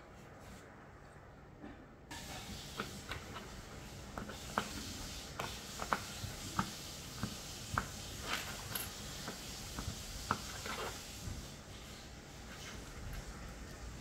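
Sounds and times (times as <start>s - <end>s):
steady hiss: 2.1s - 14.0s.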